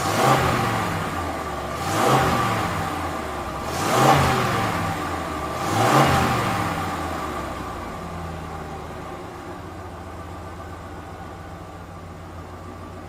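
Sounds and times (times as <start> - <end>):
vehicle engine surging: 0.0 - 11.3.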